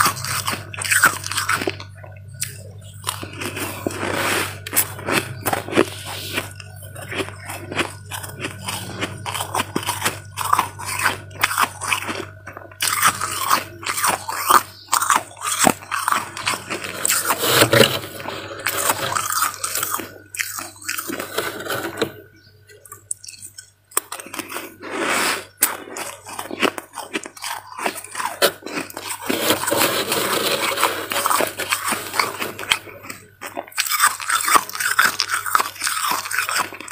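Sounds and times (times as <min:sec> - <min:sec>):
frost crunching when chewed: 0:00.0 - 0:36.9.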